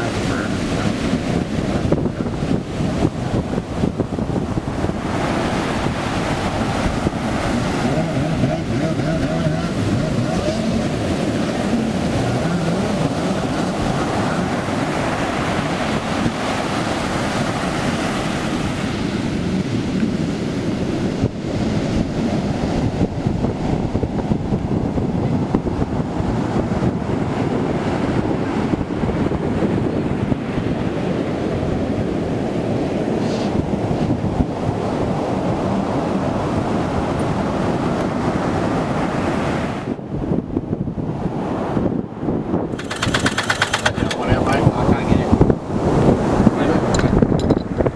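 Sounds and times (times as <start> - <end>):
heavy surf breaking: 0.0 - 40.4, 41.2 - 47.9
wind buffeting microphone: 0.0 - 47.9.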